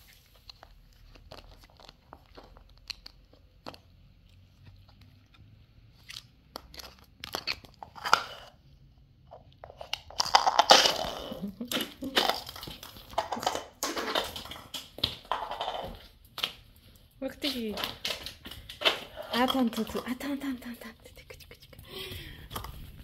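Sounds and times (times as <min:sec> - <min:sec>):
plastic ball crunching on tiles: 0:00.1 - 0:20.3.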